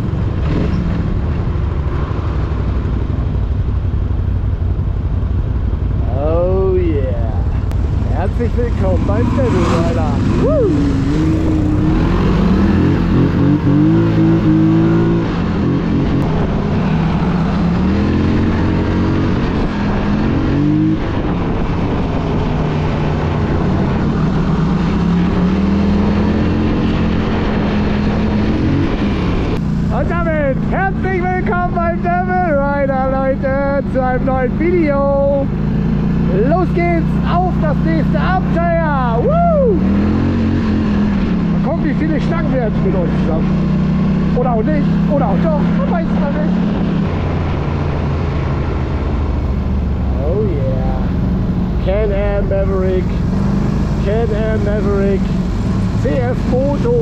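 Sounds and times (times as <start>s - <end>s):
quad bike engines rumbling: 0.0s - 57.0s.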